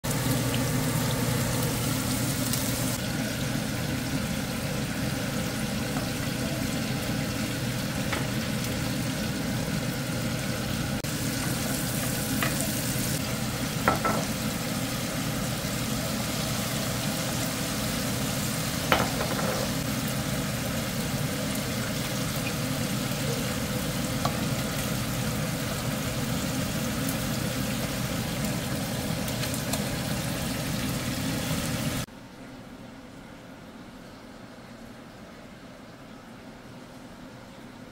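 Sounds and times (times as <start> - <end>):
hot oil sizzling in a pan: 0.0 - 32.1.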